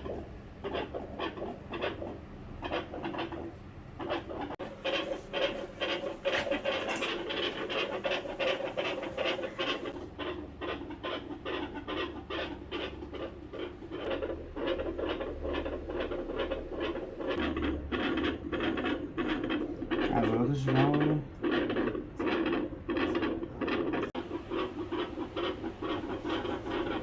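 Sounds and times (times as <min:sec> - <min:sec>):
rubbing noise: 0:00.0 - 0:27.0.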